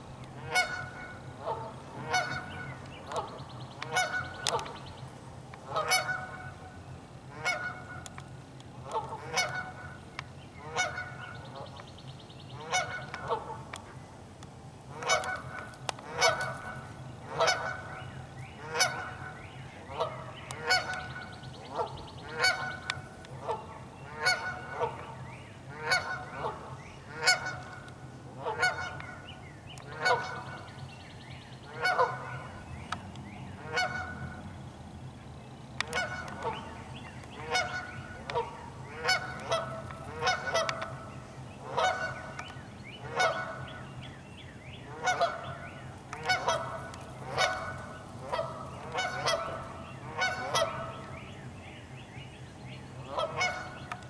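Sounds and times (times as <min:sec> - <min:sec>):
geese honking: 0:00.3 - 0:04.9, 0:05.6 - 0:06.7, 0:07.3 - 0:08.2, 0:08.8 - 0:10.0, 0:10.6 - 0:11.8, 0:12.6 - 0:13.8, 0:14.9 - 0:30.8, 0:31.7 - 0:32.6, 0:33.6 - 0:34.4, 0:35.8 - 0:44.0, 0:44.9 - 0:51.3, 0:53.0 - 0:54.0.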